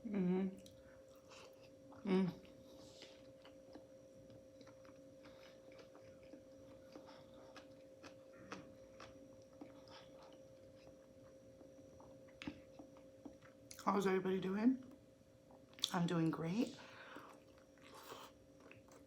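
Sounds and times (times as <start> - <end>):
faint hum: 0.0 - 19.0
person chewing: 0.6 - 13.8, 17.0 - 19.0.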